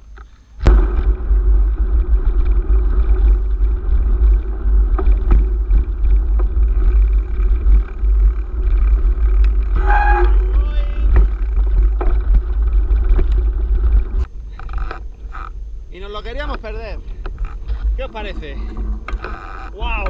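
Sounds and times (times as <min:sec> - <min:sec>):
bike knocks and rattles: 0:00.6 - 0:20.0
wind buffeting microphone: 0:00.6 - 0:20.0.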